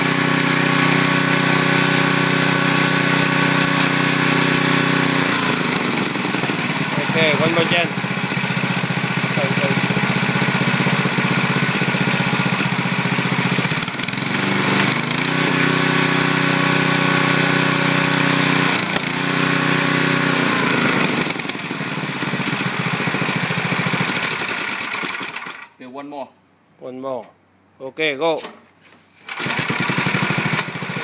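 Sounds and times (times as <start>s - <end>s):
single-cylinder engine running: 0.0s - 25.7s, 29.3s - 31.0s.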